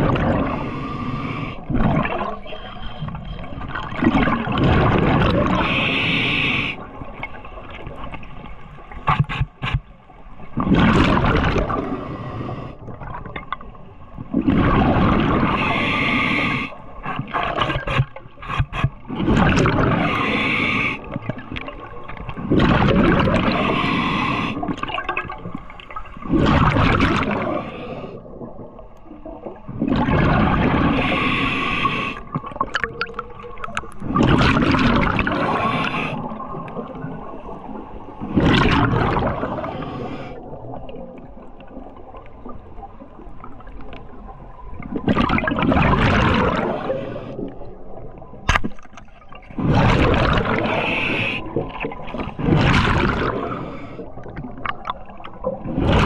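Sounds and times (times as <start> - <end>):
exhaled bubbles underwater: 0.0 - 56.0
underwater water noise: 0.0 - 56.0.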